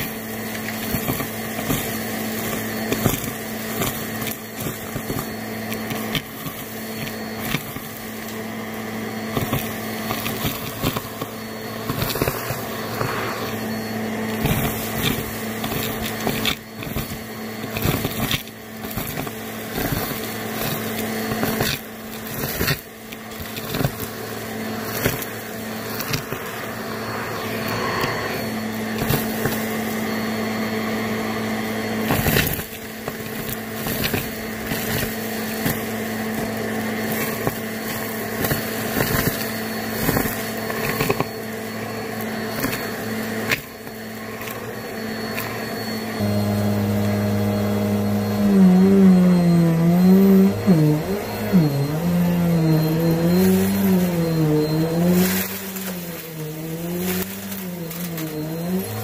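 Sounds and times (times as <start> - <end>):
debris rattling in vacuum: 0.0 - 59.0
vacuum cleaner running: 0.0 - 59.0.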